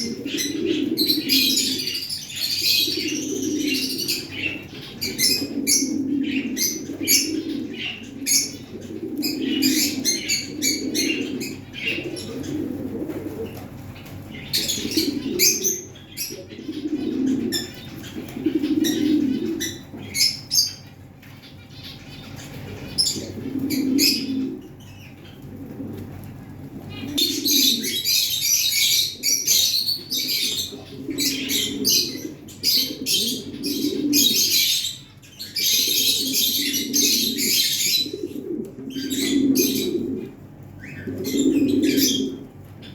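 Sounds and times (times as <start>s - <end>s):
pigeons cooing: 0.0s - 42.9s
small birds chirping: 0.0s - 42.9s.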